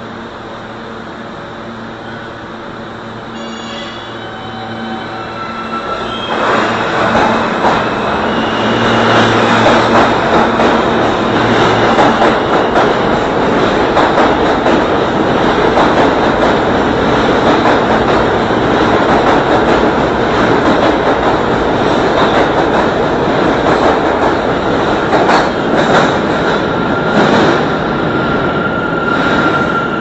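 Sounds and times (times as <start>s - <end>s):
subway train wheels clattering: 0.0s - 30.0s.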